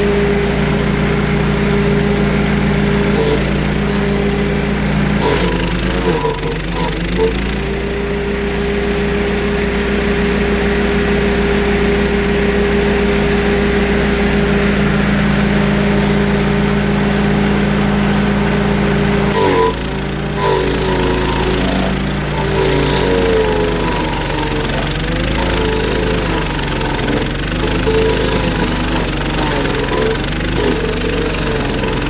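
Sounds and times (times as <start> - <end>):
stump grinder engine under load: 0.0 - 32.0.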